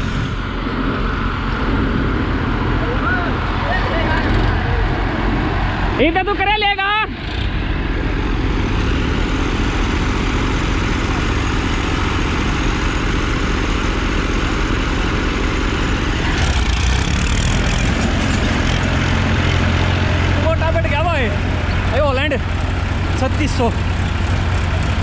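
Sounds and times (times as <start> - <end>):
deep engine rumble: 0.0 - 25.0
tractor engines running: 0.0 - 25.0.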